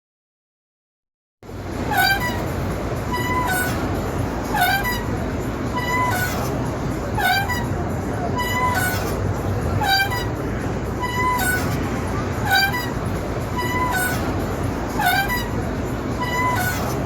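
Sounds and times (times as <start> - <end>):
swing creaking metal squeak: 1.5 - 17.0.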